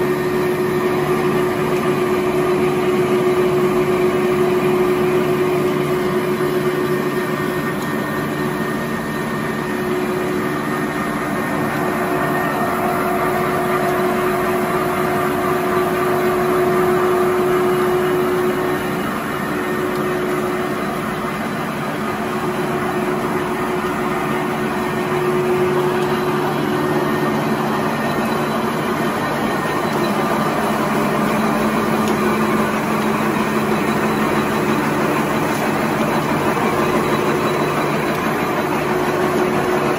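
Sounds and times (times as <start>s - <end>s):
machine noise: 0.0s - 39.9s.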